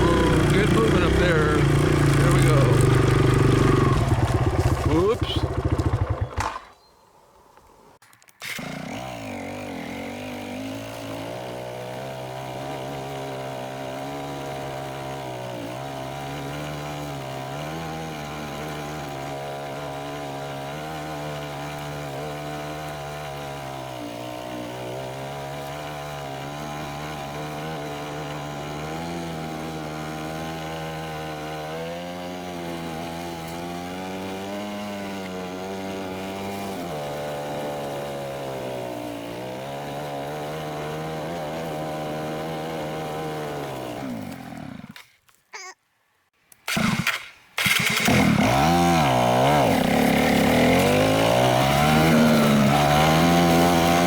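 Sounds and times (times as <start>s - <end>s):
dirt bike engine running: 0.0s - 6.8s, 9.2s - 43.9s, 46.7s - 54.0s.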